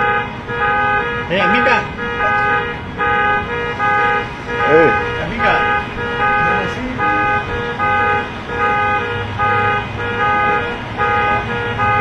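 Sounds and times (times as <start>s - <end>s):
car horn honking alarm: 0.0s - 12.0s.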